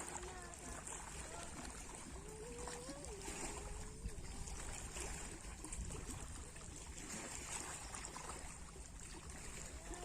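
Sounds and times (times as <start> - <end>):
sea water lapping: 0.0 - 10.0.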